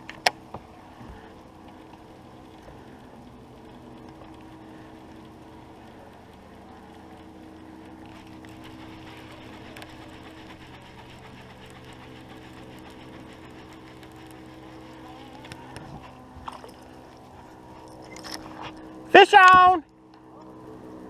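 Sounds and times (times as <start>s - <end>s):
small motor humming: 0.0s - 21.0s.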